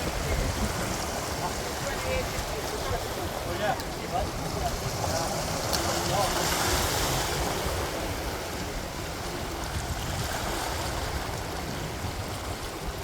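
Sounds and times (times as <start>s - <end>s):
water washing against rocks: 0.0s - 13.0s
wind on microphone: 0.0s - 13.0s.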